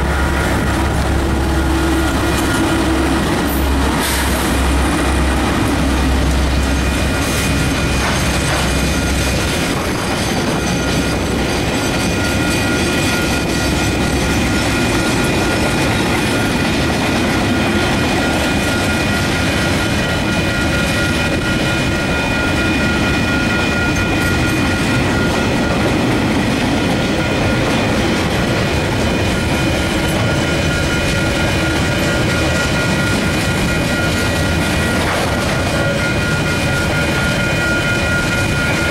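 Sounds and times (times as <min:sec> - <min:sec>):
diesel locomotive rumble: 0:00.0 - 0:38.9
train wheels rolling: 0:00.0 - 0:38.9.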